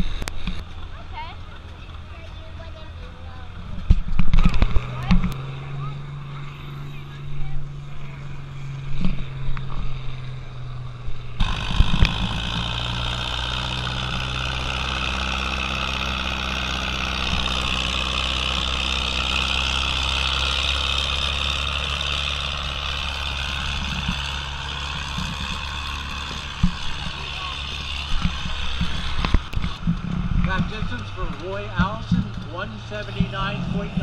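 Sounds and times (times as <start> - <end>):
low hum: 0.0 - 34.0
tractor engine under load: 0.0 - 34.0.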